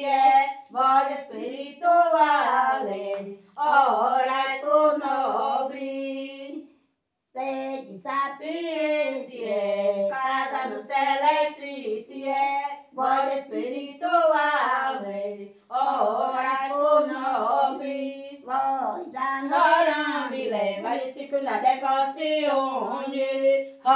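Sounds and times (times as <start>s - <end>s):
women singing unaccompanied: 0.0s - 6.7s, 7.4s - 23.9s.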